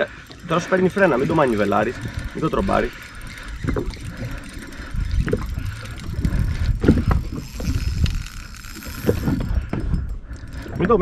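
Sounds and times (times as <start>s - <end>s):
water lapping: 0.0s - 11.0s
wind buffeting microphone: 0.0s - 11.0s.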